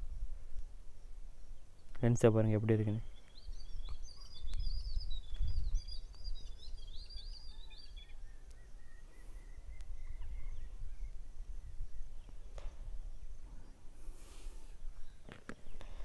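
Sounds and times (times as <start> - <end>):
small birds chirping: 0.0 - 16.0
thin steady high bird call: 0.0 - 16.0.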